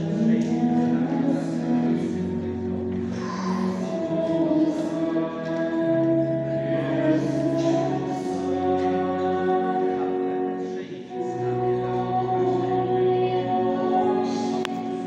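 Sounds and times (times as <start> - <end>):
choir singing a hymn: 0.0 - 15.0
held chords: 0.0 - 15.0.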